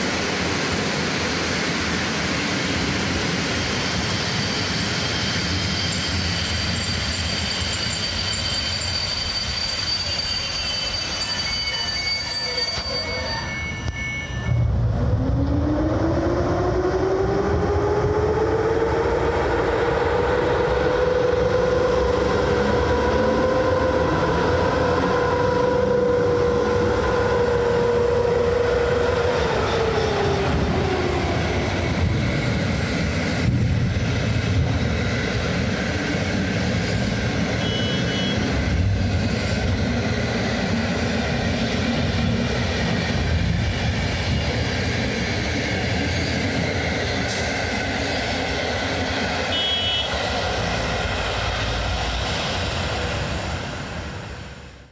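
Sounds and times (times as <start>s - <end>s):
electric locomotive whine: 0.0s - 54.9s
train coaches rolling rumble: 0.0s - 54.9s.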